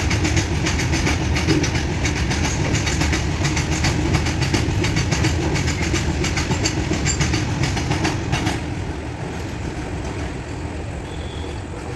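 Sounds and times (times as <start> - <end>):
train rumble: 0.0 - 11.9
train wheels clickety-clack: 0.0 - 11.9.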